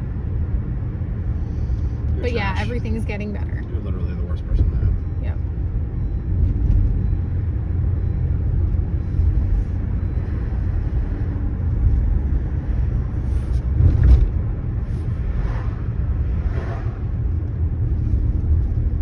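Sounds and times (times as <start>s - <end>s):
car cabin rumble: 0.0s - 19.0s.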